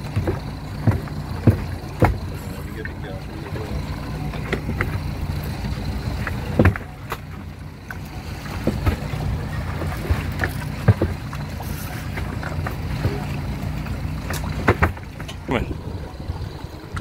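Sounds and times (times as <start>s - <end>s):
boat engine hum: 0.0s - 17.0s
water noise: 0.0s - 17.0s
wind: 0.0s - 17.0s.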